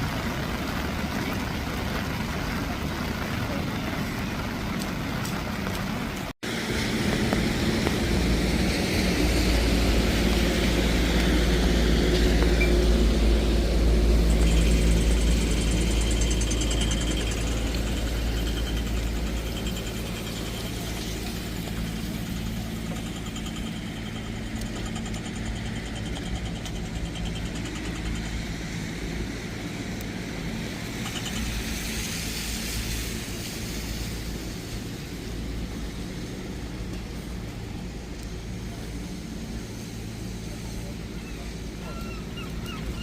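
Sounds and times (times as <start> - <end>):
traffic hiss: 0.0 - 43.0
vehicle engine running: 0.0 - 43.0.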